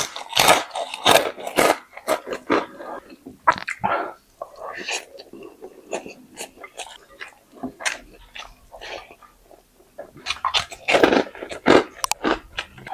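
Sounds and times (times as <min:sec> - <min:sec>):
person chewing and crunching: 0:00.0 - 0:12.9.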